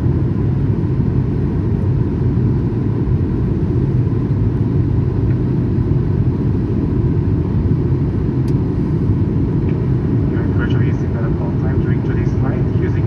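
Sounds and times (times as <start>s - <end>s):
faint steady hum: 0.0s - 13.0s
jet engine rumble in cabin: 0.0s - 13.0s.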